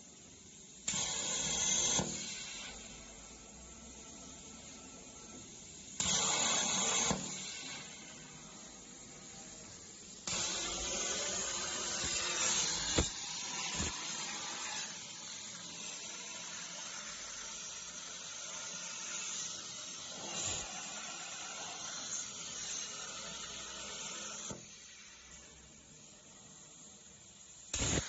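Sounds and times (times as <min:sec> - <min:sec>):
plasma torch hissing: 0:00.0 - 0:28.0.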